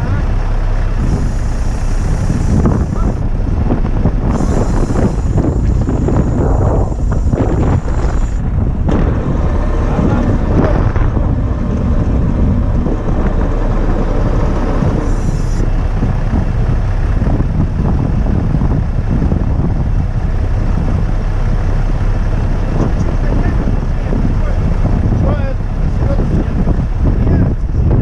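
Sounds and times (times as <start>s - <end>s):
truck engine running: 0.0s - 28.0s
wind buffeting microphone: 0.0s - 28.0s.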